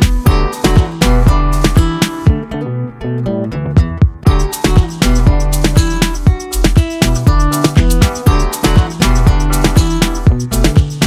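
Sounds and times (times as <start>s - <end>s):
upbeat music with drums and bass: 0.0s - 11.0s.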